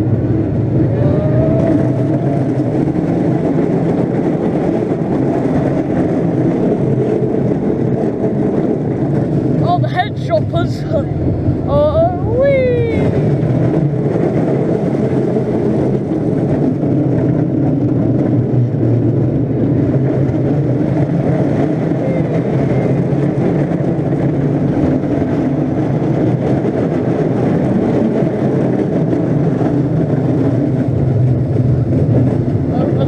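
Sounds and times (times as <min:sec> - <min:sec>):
roller coaster rumbling on track: 0:00.0 - 0:33.0.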